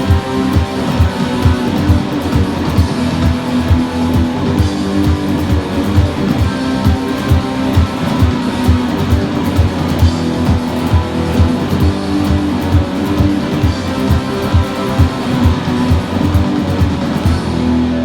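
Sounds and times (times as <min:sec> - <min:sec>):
backing track with drum beat: 0:00.0 - 0:18.0
electric guitar playing: 0:00.0 - 0:18.0.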